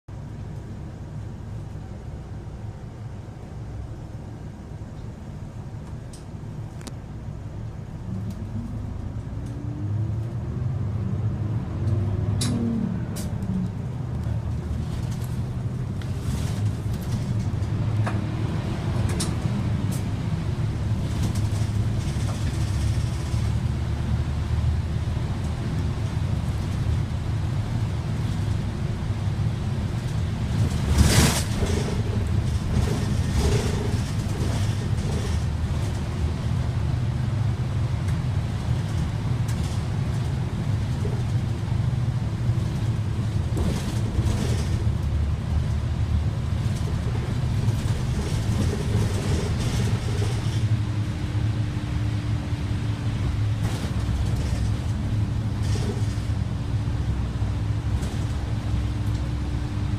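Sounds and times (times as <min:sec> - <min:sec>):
bus engine and road rumble: 0:00.1 - 0:59.9.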